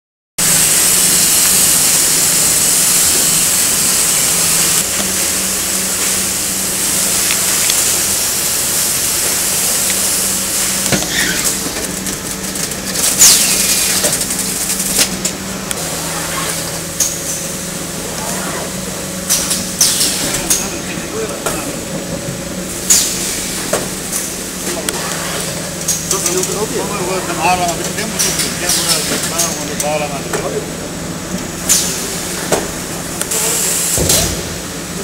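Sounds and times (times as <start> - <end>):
constant air hiss: 0.4 - 35.0
mechanical hum: 0.4 - 35.0.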